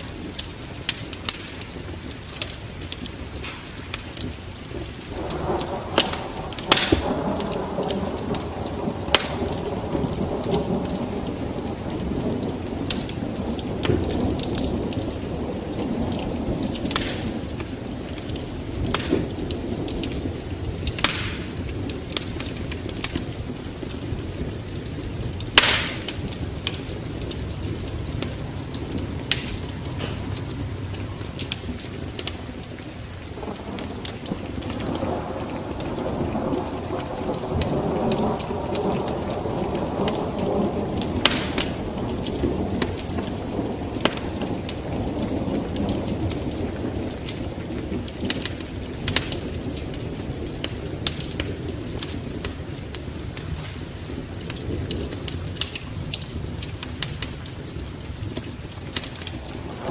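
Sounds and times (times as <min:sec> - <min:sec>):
wood fire crackling: 0:00.0 - 0:59.9
sharp pops of fire: 0:00.1 - 0:36.0, 0:40.9 - 0:47.4, 0:48.1 - 0:59.9.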